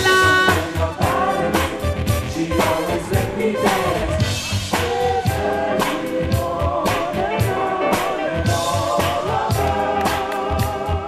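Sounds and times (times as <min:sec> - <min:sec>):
funk-soul dance track: 0:00.0 - 0:11.0
person singing: 0:00.0 - 0:11.0
steady drum beat: 0:00.0 - 0:11.0.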